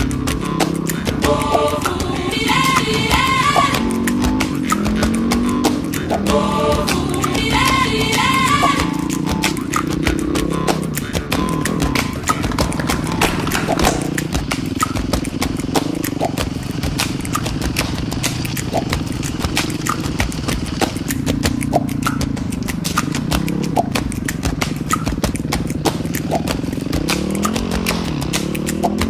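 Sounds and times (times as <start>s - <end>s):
dirt bike engine revving: 0.0s - 29.0s
rapid sharp clicks: 0.0s - 29.0s.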